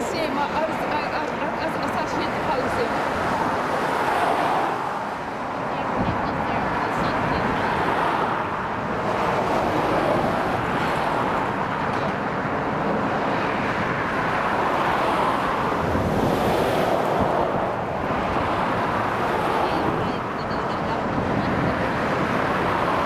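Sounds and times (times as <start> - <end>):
lorry passing: 0.0 - 23.0
tyres rushing on asphalt: 0.0 - 23.0.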